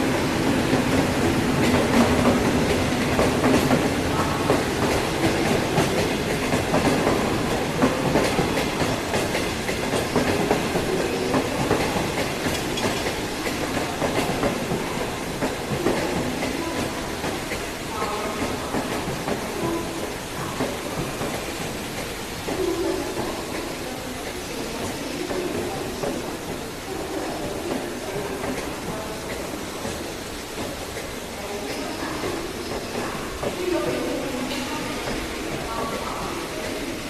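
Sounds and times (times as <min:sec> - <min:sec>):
electric locomotive passing: 0:00.0 - 0:37.0
train wheels rumbling: 0:00.0 - 0:37.0.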